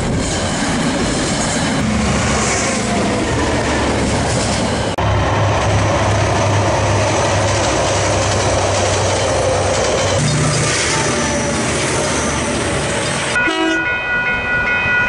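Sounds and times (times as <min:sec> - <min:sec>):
diesel locomotive engines running: 0:00.0 - 0:13.8
passing train low engine: 0:00.0 - 0:15.0.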